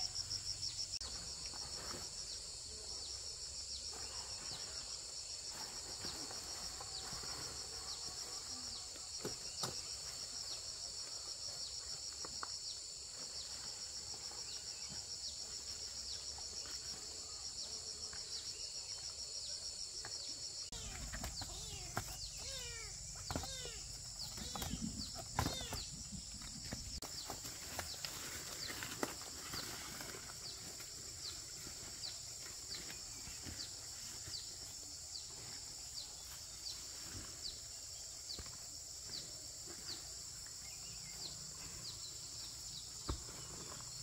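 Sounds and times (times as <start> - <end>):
pulsing insect chorus: 0.0 - 44.0.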